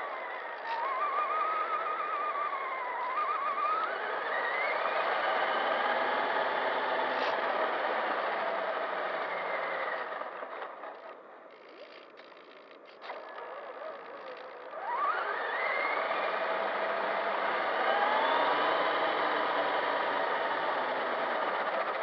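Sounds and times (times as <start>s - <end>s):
rc truck motor whining: 0.0s - 22.0s.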